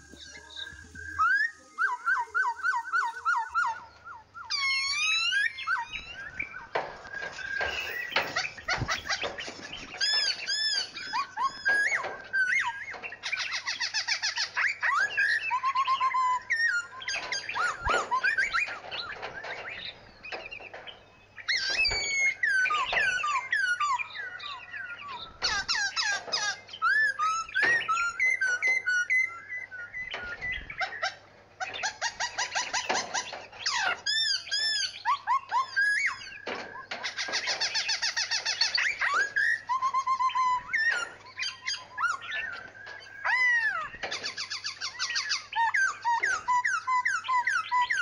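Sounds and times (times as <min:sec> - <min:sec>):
songbirds singing and chirping: 0:00.0 - 0:48.0.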